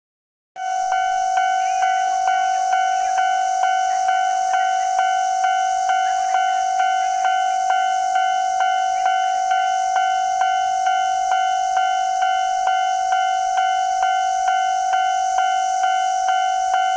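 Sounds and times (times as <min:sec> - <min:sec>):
level crossing warning bell: 0:00.6 - 0:16.9
steady high hiss: 0:00.6 - 0:16.9.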